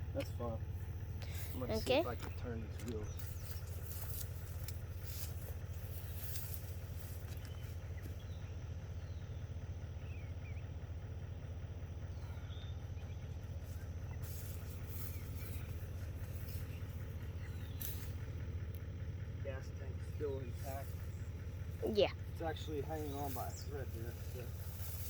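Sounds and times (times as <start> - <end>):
vehicle engine idling: 0.0 - 25.0
faint bird chirps: 0.2 - 25.0.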